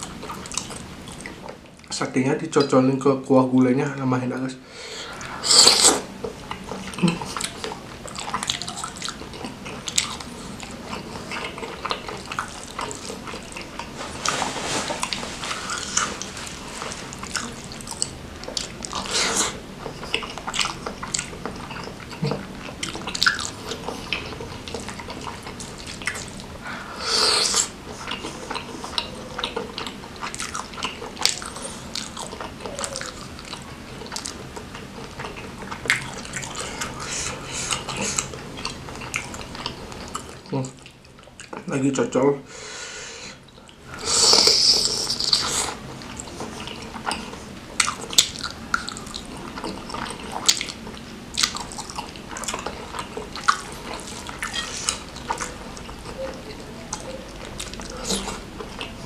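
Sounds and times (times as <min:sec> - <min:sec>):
chewing and wet mouth smacks: 0:00.0 - 0:02.0, 0:05.2 - 0:26.6, 0:27.4 - 0:41.7, 0:43.4 - 0:59.0.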